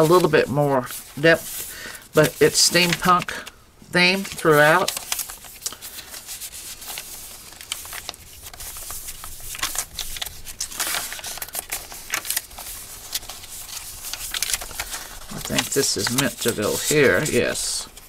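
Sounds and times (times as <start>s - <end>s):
paper pages rustling: 0.0s - 18.0s.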